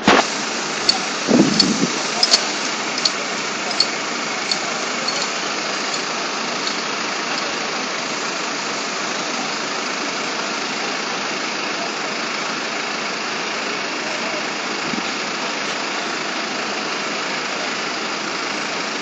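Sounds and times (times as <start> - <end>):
engine and water pump running: 0.0 - 19.0.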